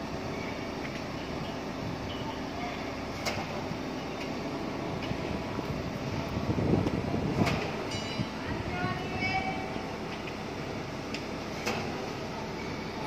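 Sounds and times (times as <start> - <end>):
crane diesel engine running: 0.0 - 13.0.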